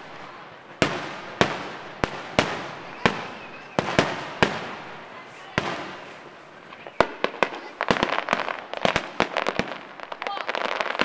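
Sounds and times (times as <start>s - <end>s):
fireworks bursting with echo: 0.0s - 11.0s.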